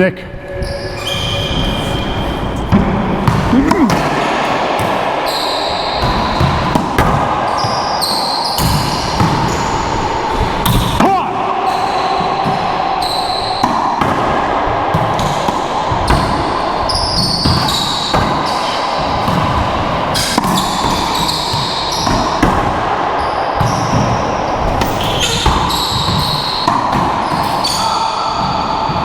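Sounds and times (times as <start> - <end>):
sneaker squeaks: 0.4 - 14.1, 15.2 - 22.6, 23.2 - 29.0
racquetball hits echoing: 0.6 - 29.0.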